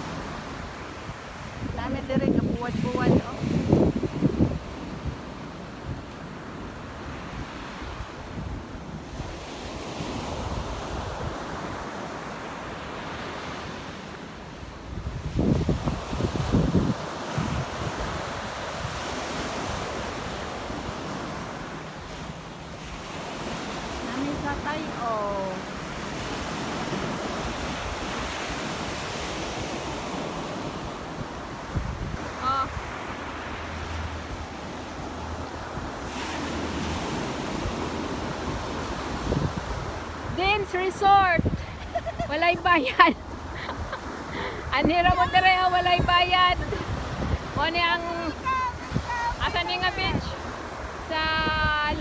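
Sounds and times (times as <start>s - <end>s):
wind buffeting microphone: 0.0s - 12.2s, 14.5s - 21.7s, 22.9s - 52.0s
sea waves washing onto beach: 0.0s - 52.0s.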